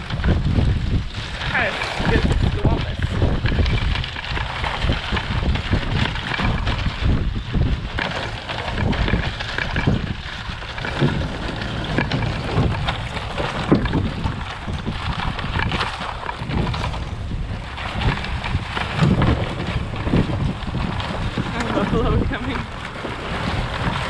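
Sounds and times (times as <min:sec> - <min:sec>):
fence drag scraping and rattling: 0:00.0 - 0:24.0
wind rumbling on microphone: 0:00.0 - 0:24.0.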